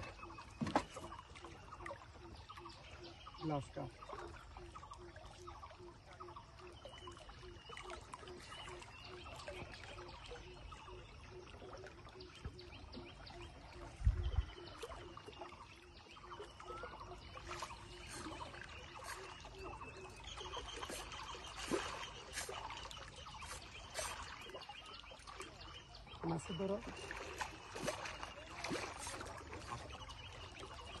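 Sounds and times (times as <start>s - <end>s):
birds calling: 0.0s - 31.0s
water lapping: 0.0s - 31.0s.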